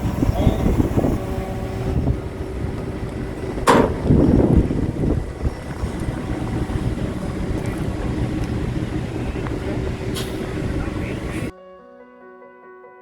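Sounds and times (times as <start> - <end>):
heavy equipment engine rumbling: 0.0 - 11.5
wind noise on microphone: 0.0 - 11.5.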